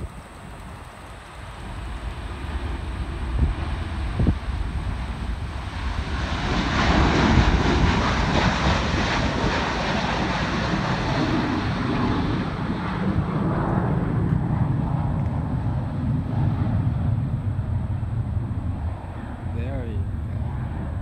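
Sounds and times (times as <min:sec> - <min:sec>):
deep low rumble: 0:00.0 - 0:21.0
jet engines roaring at takeoff: 0:00.0 - 0:21.0.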